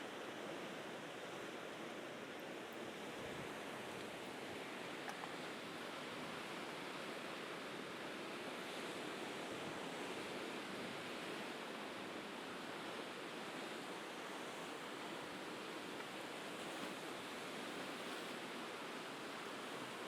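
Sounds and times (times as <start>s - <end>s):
sea waves washing on shore: 0.1s - 20.0s.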